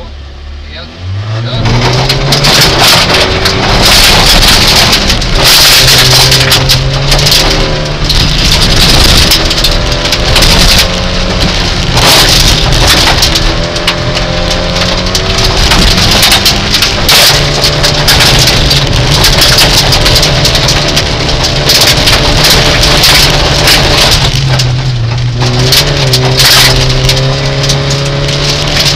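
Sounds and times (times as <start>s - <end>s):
rally car engine revving: 0.0s - 28.9s
gravel rattling against underbody: 1.4s - 28.9s.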